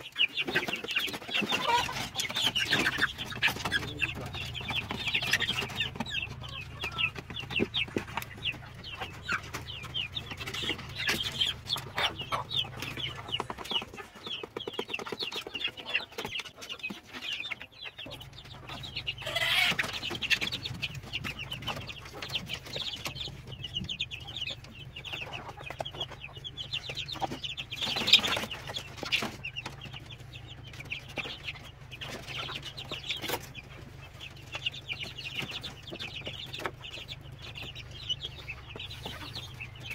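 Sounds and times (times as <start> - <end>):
chickens clucking and cheeping: 0.0 - 39.9.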